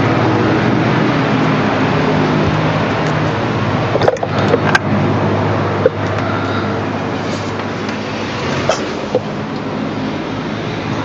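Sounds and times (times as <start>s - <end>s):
loud mechanical drone: 0.0s - 11.0s
low hum: 0.0s - 11.0s.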